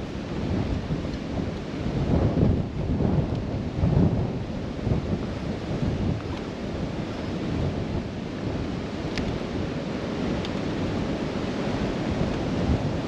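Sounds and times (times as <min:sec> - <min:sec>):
blizzard wind gusting: 0:00.0 - 0:13.0.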